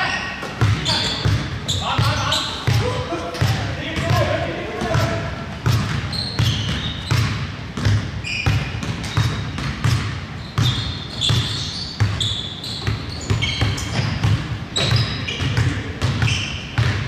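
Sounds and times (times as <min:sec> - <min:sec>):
sneaker squeaks: 0:00.0 - 0:17.0
basketball dribbling on hardwood: 0:00.5 - 0:17.0.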